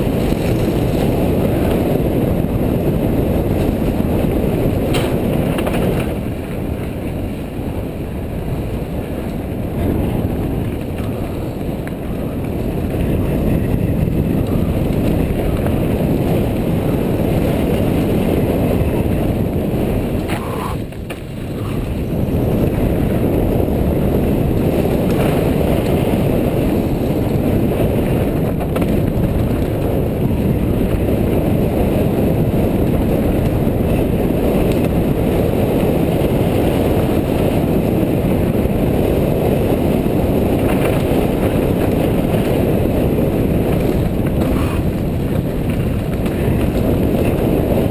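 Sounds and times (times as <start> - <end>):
mountain bike rattle and tyre roar: 0.0 - 47.9
wind buffeting microphone: 0.0 - 47.9.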